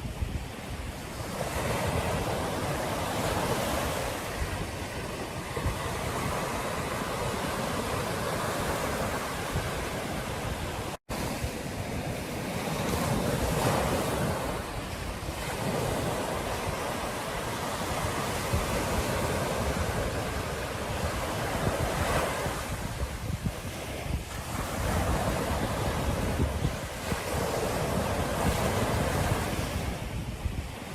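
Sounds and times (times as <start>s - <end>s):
ocean surf washing onto beach: 0.0s - 30.9s
wind buffeting microphone: 0.0s - 30.9s.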